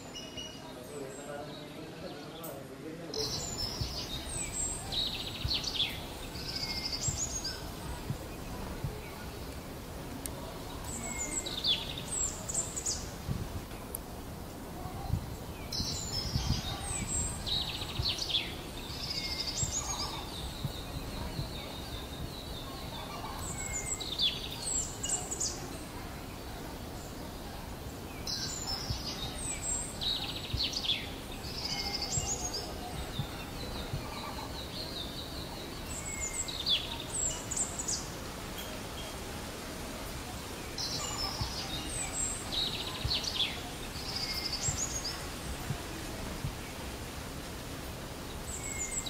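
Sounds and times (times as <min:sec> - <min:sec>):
birds chirping and trilling: 0:00.0 - 0:49.0
low background hiss: 0:00.0 - 0:49.0.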